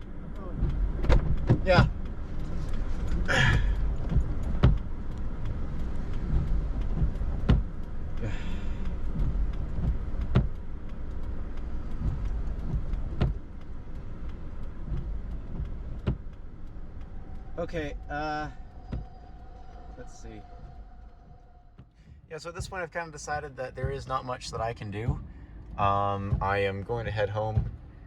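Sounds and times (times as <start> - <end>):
car cabin low rumble: 0.0 - 28.0.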